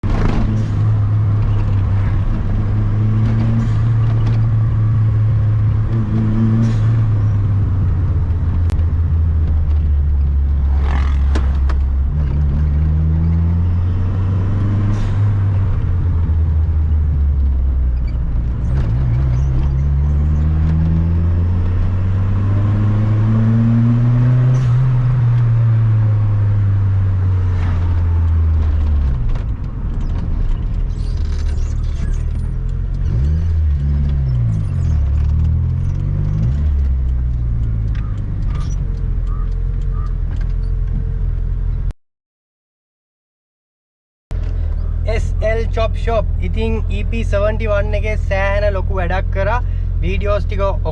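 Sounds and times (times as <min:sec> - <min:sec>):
turbo car engine revving: 0:00.0 - 0:41.9.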